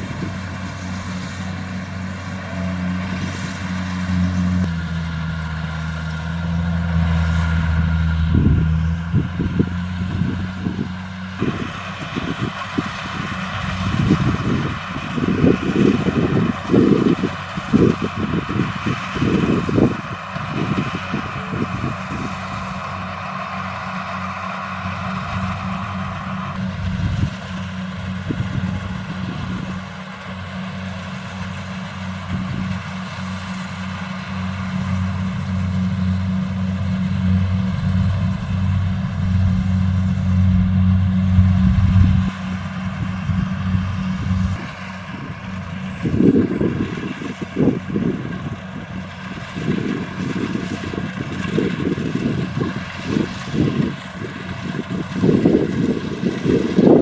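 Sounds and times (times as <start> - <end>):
wind rumble on microphone: 0.0 - 1.2, 6.6 - 23.8, 25.0 - 29.9, 34.6 - 57.0
diesel engine humming: 0.0 - 57.0.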